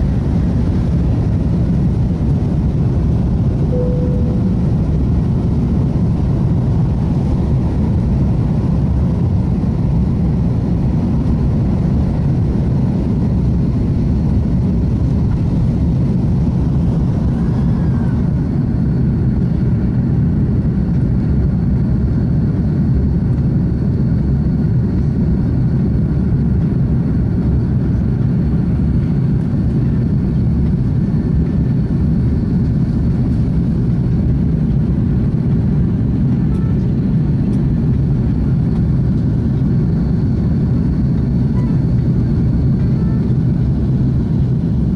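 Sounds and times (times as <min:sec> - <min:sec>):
jet engines rumbling: 0:00.0 - 0:44.9.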